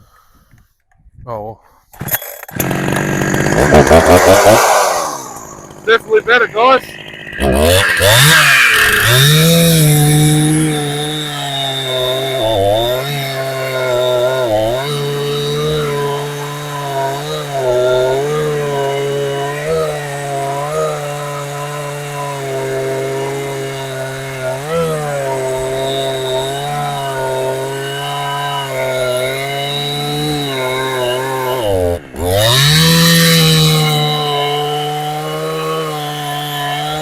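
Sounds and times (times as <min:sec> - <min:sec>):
chainsaw revving: 0:02.0 - 0:37.0.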